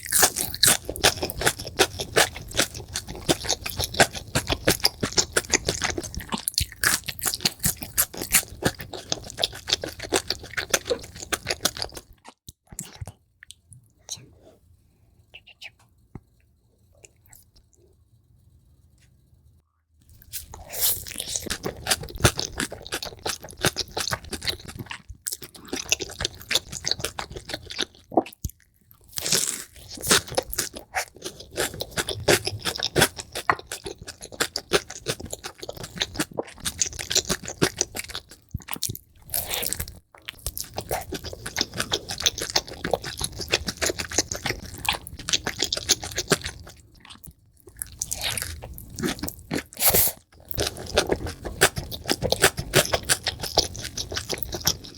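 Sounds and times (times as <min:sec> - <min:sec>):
chewing crunchy food: 0:00.0 - 0:14.2, 0:20.1 - 0:54.9.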